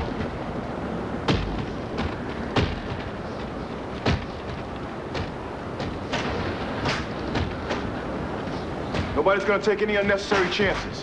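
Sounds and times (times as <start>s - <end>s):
sharp bangs: 0.0s - 11.0s
wind and rain rushing: 0.0s - 11.0s.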